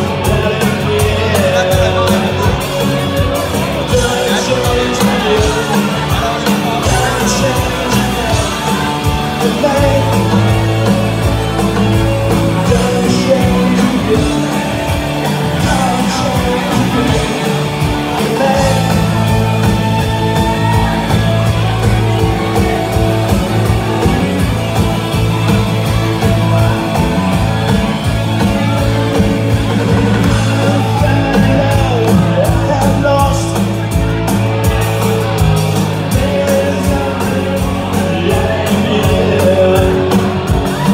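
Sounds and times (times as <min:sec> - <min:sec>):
person singing: 0:00.0 - 0:40.9
rock band playing loud: 0:00.0 - 0:40.9.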